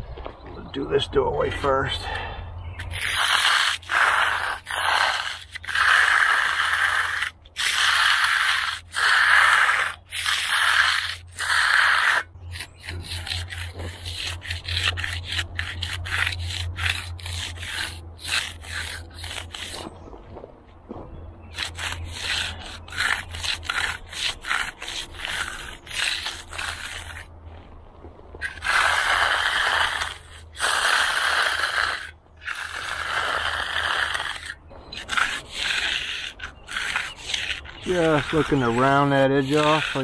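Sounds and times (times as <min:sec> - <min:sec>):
concrete edger scraping: 0:00.9 - 0:20.1, 0:21.4 - 0:27.7, 0:28.3 - 0:40.0.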